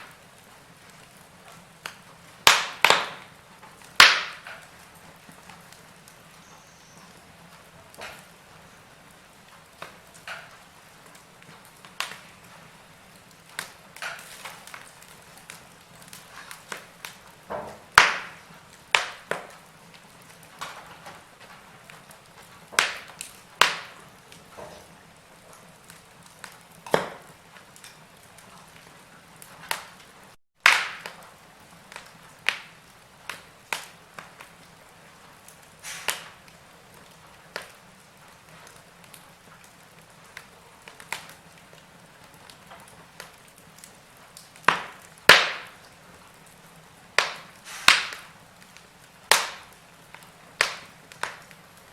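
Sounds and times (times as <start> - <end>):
faint steady hiss: 0.0 - 51.9
wood fire crackling and popping: 0.0 - 51.9.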